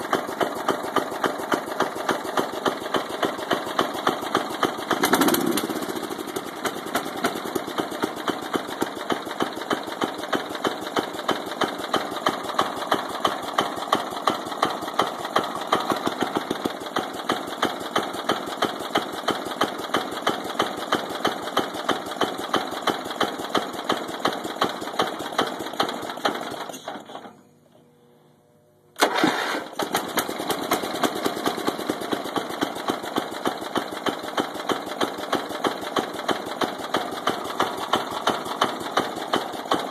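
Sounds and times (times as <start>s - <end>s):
lawn tractor engine knocking: 0.0s - 27.3s, 29.0s - 39.9s.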